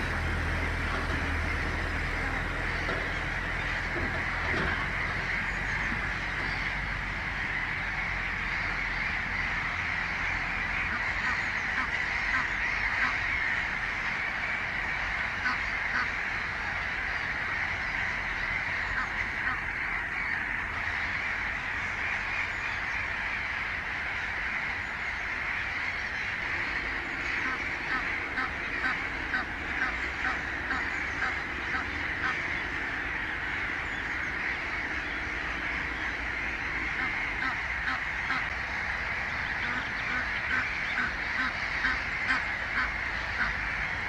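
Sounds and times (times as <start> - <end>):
goslings peeping: 0.0 - 44.0.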